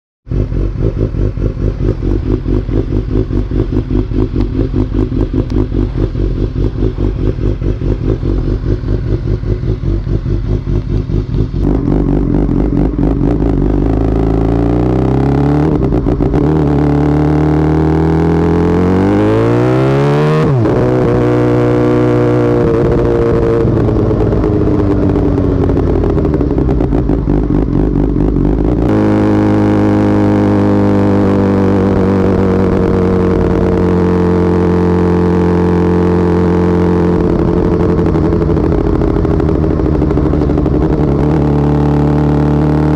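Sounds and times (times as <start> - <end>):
motorcycle engine accelerating: 0.2 - 42.9.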